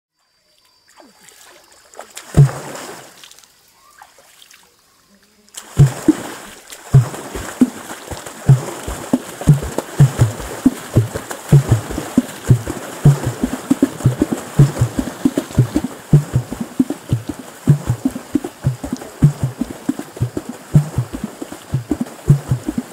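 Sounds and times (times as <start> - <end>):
hands striking water: 2.0 - 3.4, 5.6 - 22.9.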